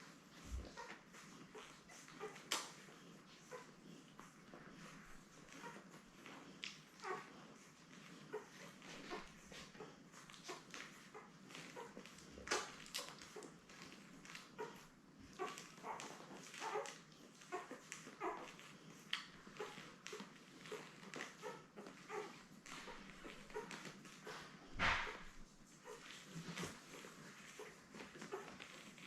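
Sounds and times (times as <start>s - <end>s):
puppies squeaking and whimpering: 0.0s - 29.0s
small clicks and rustles: 0.0s - 29.0s.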